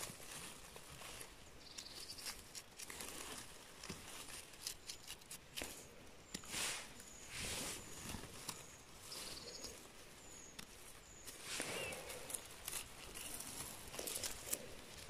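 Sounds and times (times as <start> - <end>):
moss and leaves rustling: 0.0 - 15.0
small knife scraping mushrooms: 1.6 - 15.0.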